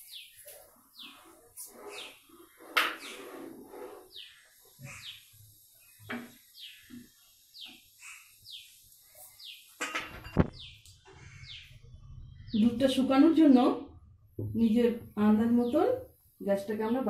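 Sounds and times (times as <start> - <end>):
bird chirping: 0.0 - 3.3, 4.0 - 16.0.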